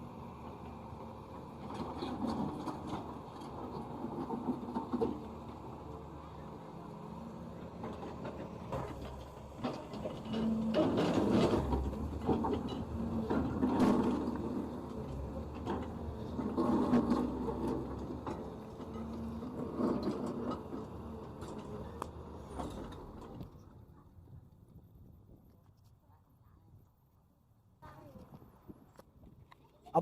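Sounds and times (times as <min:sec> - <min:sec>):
excavator engine and hydraulics: 0:00.0 - 0:25.2.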